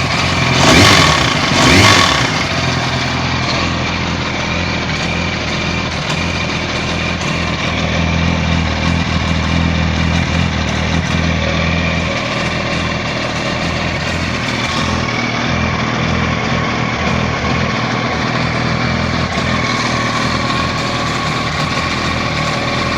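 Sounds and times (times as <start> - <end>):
motorcycle engine running: 0.0 - 22.9
rattle: 0.0 - 22.9.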